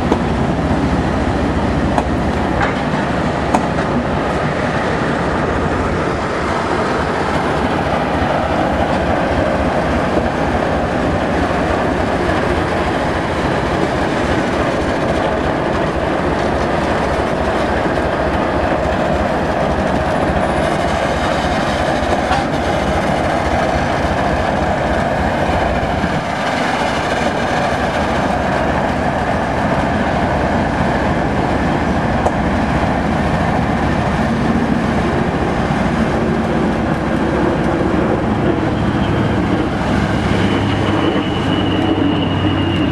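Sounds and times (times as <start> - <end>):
diesel locomotive engines running: 0.0 - 42.9
train wheels clacking on rails: 0.0 - 42.9.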